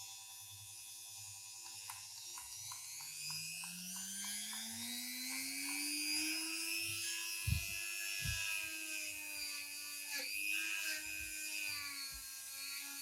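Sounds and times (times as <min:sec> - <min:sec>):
power tool motor whining: 0:00.0 - 0:13.0.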